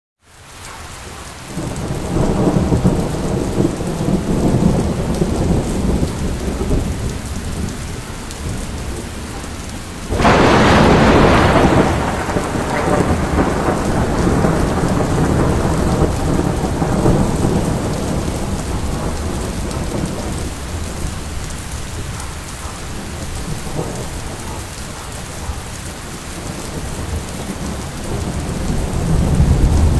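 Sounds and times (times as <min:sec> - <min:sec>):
steady rain: 0:00.2 - 0:29.9
loud thunderclap: 0:01.5 - 0:29.9
rolling thunder: 0:01.5 - 0:29.9.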